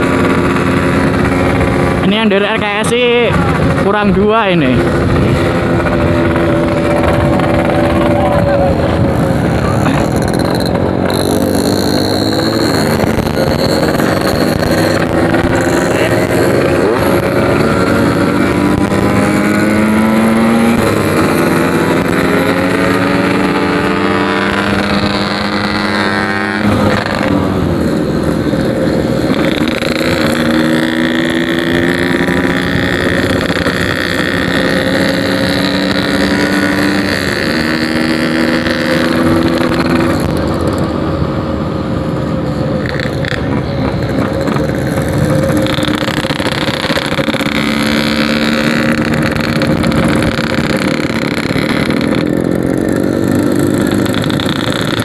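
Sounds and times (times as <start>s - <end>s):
two-stroke motorcycle accelerating: 0.0s - 55.0s.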